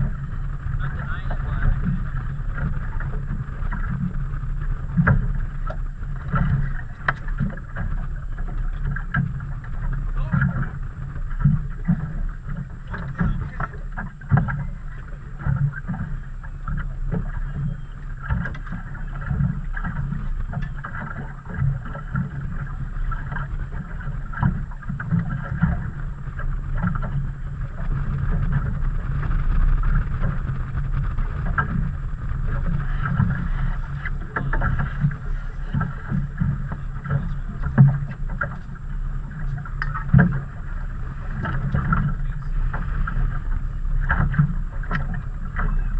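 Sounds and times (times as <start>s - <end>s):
boat and gear knocking: 0.0s - 45.9s
water slapping boat hull: 0.0s - 45.9s
wind: 0.0s - 45.9s.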